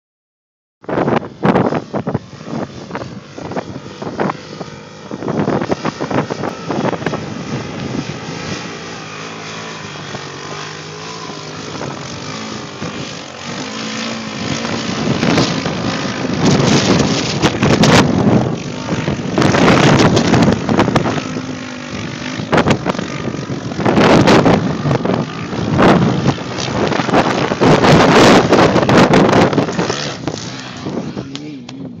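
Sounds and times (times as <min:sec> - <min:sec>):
wind buffeting microphone: 0:00.8 - 0:32.0
quad engine revving: 0:01.0 - 0:32.0.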